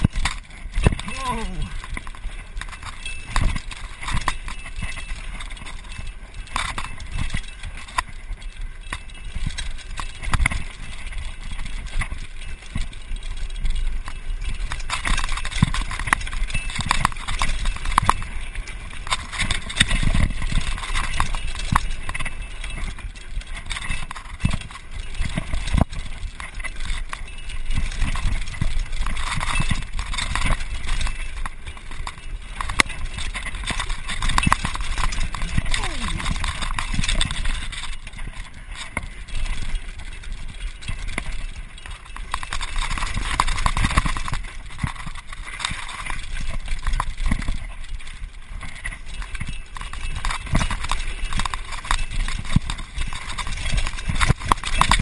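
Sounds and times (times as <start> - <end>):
bike rattling: 0.0 - 55.0
tyres over loose stones: 0.0 - 55.0
wind rumble on microphone: 0.0 - 55.0.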